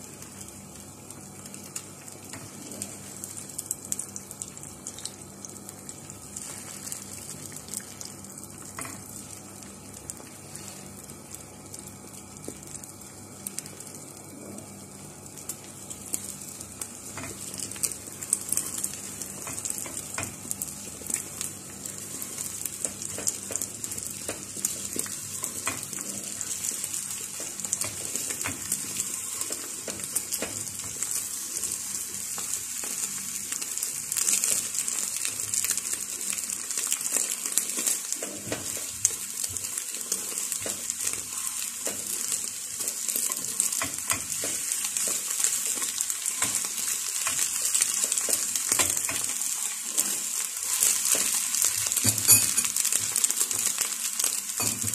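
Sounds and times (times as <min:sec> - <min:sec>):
eggs sizzling in frying pan: 0:00.0 - 0:54.9.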